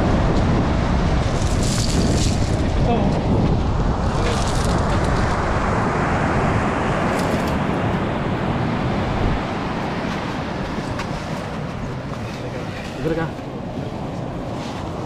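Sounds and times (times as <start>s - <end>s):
ocean surf washing up beach: 0.0s - 15.0s.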